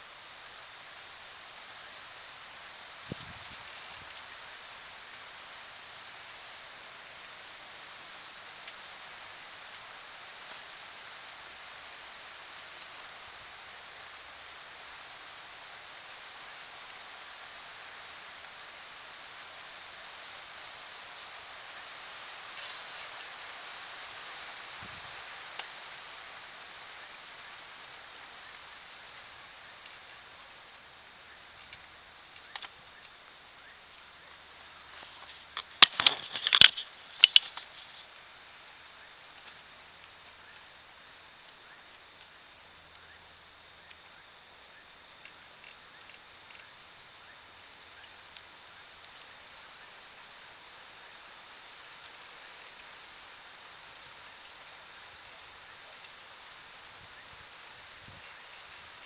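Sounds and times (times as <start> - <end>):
high-pitched insect trill: 0.0 - 59.0
soft outdoor hiss: 0.0 - 59.0.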